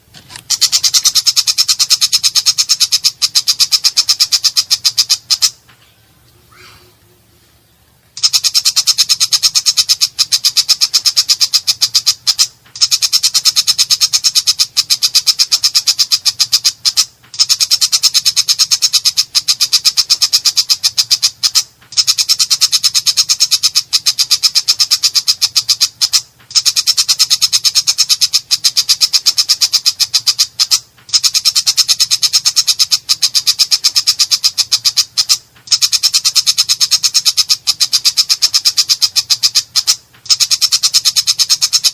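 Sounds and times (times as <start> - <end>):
bird rattling chatter: 0.0 - 5.6, 8.2 - 41.9.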